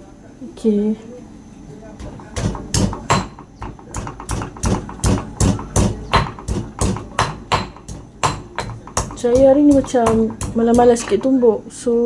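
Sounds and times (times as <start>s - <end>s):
rhythmic knocks of food worked by hand: 1.8s - 11.6s.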